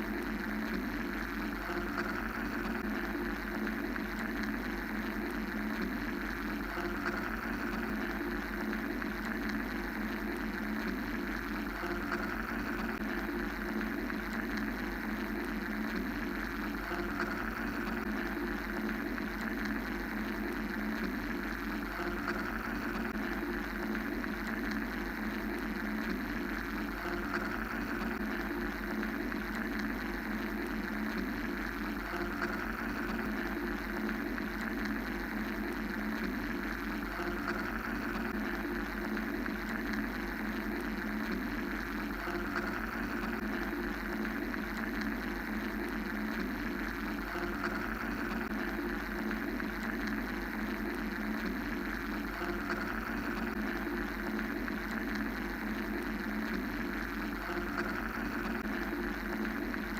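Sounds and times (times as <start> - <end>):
mechanical white-noise drone: 0.0 - 59.9.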